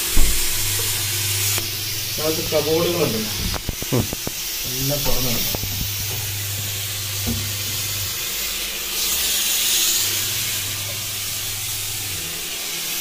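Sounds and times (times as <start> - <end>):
fogging machine spraying mist: 0.0 - 13.0.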